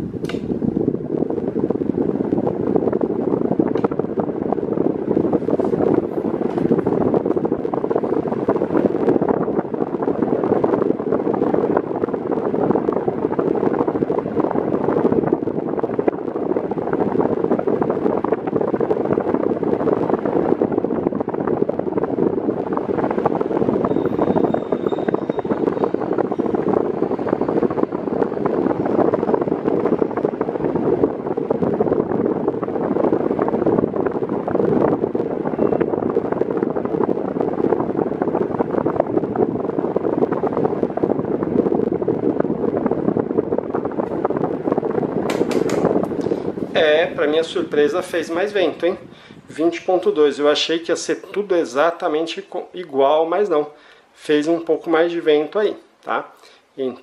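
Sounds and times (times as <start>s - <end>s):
fan wind buffeting microphone: 0.0s - 57.0s.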